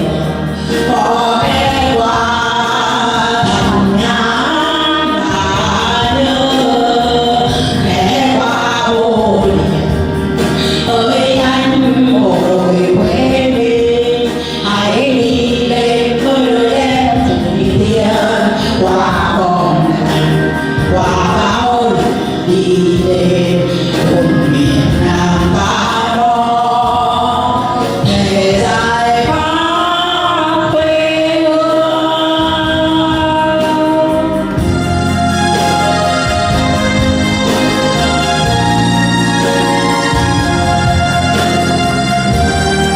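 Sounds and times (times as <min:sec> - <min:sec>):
group of people singing: 0:00.0 - 0:34.4
instrumental backing: 0:00.0 - 0:42.9.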